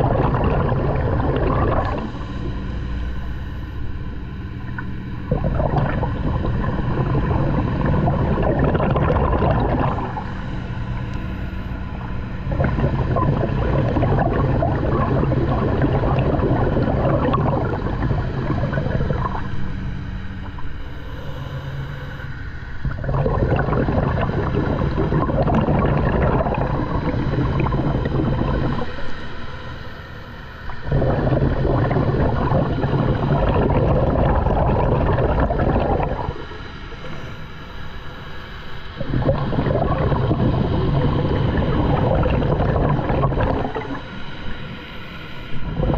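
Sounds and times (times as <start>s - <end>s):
exhaled bubbles underwater: 0.0s - 45.9s
steady low hum: 0.0s - 45.9s.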